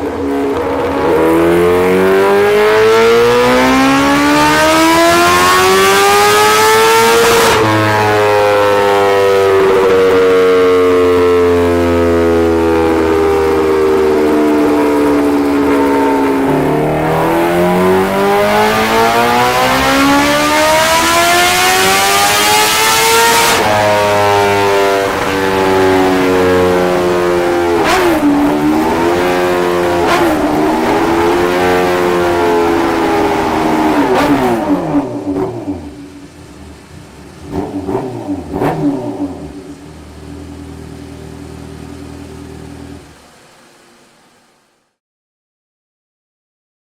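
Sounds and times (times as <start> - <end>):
motorcycle engine accelerating: 0.0 - 43.4.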